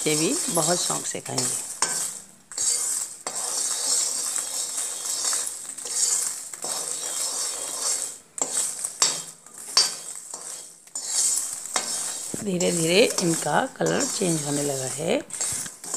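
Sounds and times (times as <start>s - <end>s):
metal spatula scraping a pan: 0.0s - 15.9s.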